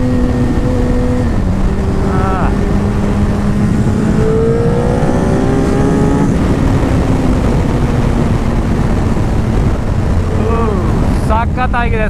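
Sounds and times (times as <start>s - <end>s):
motorcycle engine accelerating: 0.0s - 11.8s.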